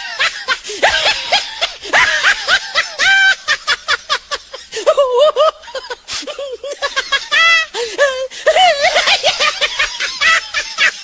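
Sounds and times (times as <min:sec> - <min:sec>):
high-pitched snickering laughter: 0:00.0 - 0:11.0.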